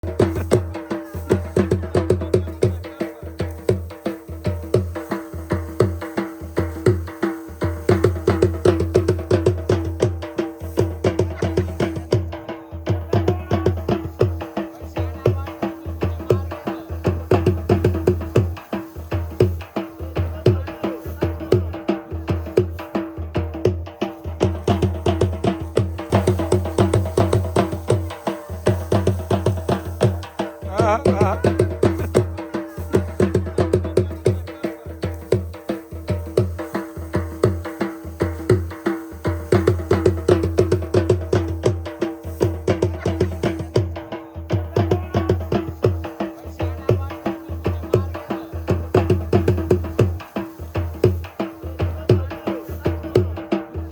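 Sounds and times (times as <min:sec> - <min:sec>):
quick percussion beat: 0:00.0 - 0:53.9.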